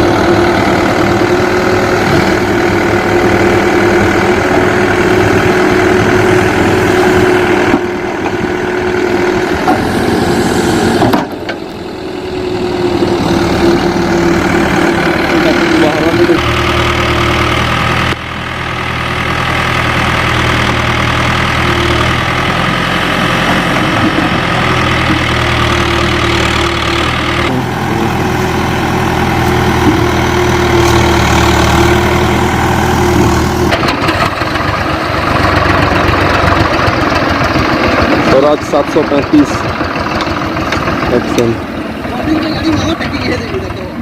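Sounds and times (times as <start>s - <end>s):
diesel engines running: 0.0s - 44.0s.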